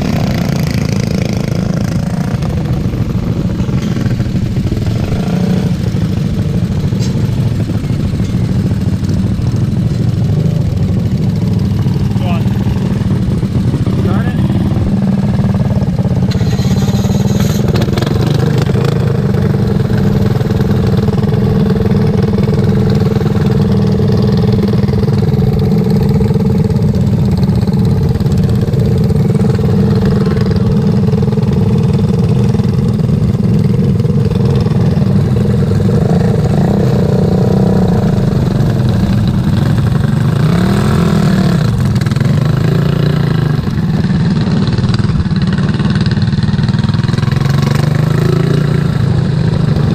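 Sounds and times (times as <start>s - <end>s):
lawn mower engine running hard: 0.0s - 49.9s.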